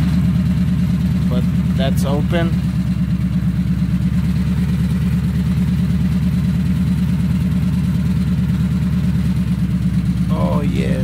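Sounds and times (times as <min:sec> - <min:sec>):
vee eight engine idling rumble: 0:00.0 - 0:11.0.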